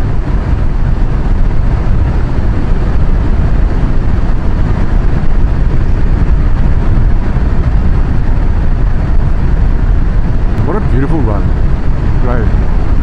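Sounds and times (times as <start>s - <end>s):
motorcycle engine: 0.0s - 13.0s
wind rush on microphone: 0.0s - 13.0s.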